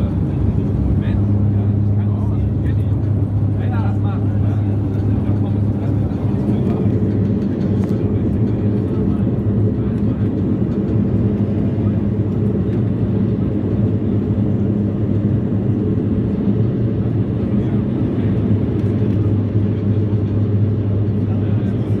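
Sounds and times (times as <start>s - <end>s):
turboprop cabin drone: 0.0s - 22.0s.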